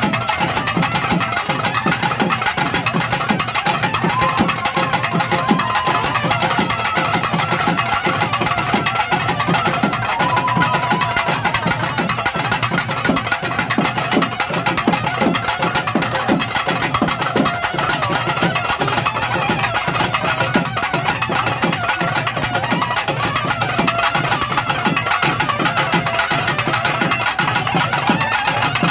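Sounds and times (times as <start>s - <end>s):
fast loud drumming: 0.0s - 28.9s.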